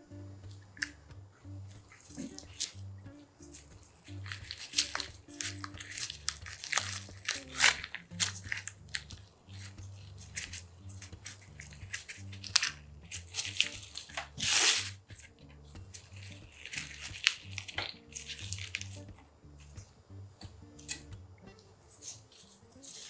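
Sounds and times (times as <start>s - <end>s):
soft background music: 0.0s - 23.0s
crinkling and rustling: 0.4s - 23.0s.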